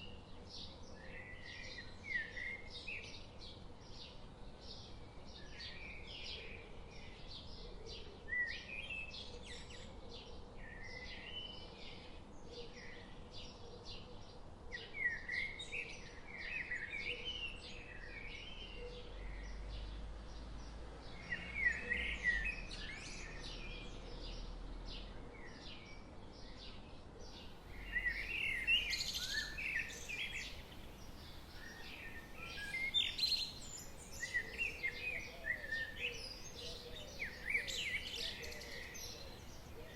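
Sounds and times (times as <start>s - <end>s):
faint background hiss: 0.0s - 39.9s
songbirds chirping and singing: 0.0s - 39.9s.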